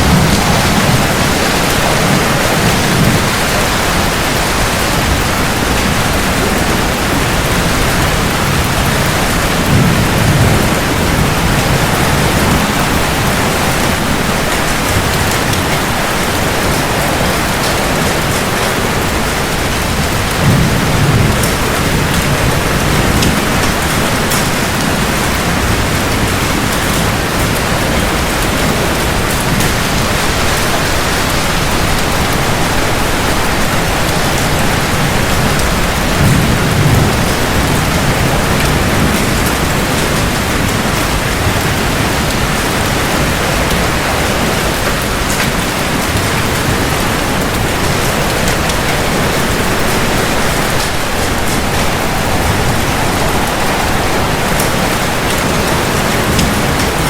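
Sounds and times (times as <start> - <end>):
rain on hard surfaces: 0.0 - 57.0
thunder rumbling: 0.0 - 57.0.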